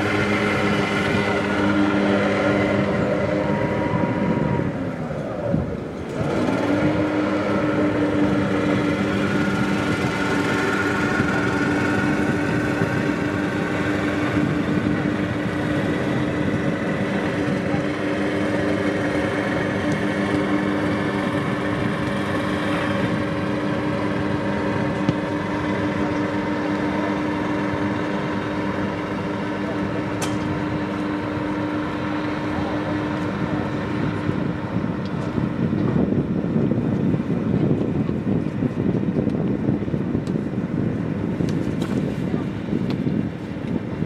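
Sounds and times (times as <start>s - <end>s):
motor droning hum: 0.0s - 44.0s.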